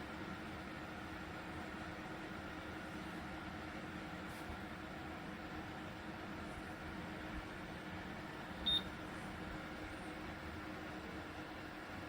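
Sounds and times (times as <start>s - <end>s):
faint hum: 0.0s - 12.0s
fan heater whirring: 0.0s - 12.0s.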